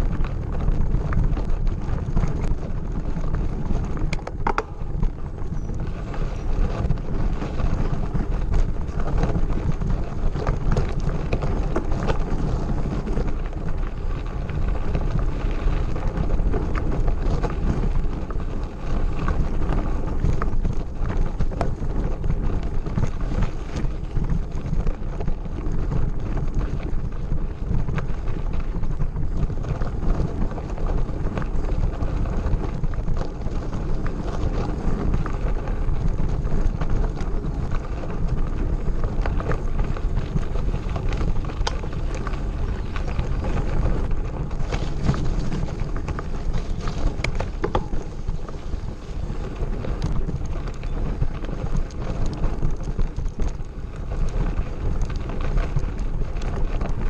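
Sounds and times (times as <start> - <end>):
wind buffeting microphone: 0.0 - 57.0
tyres crunching on gravel: 0.1 - 57.0
bike frame rattling: 0.4 - 57.0.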